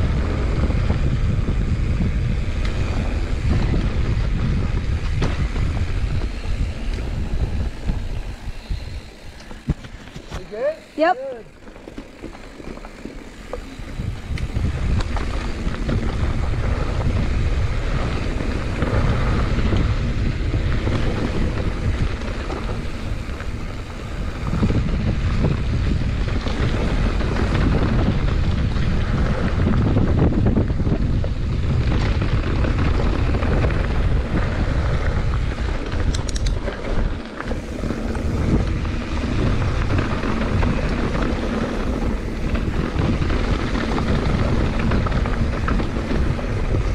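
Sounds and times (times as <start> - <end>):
bike rattling: 0.0 - 46.9
tyres running over dirt: 0.0 - 46.9
wind rushing over microphone: 0.0 - 46.9.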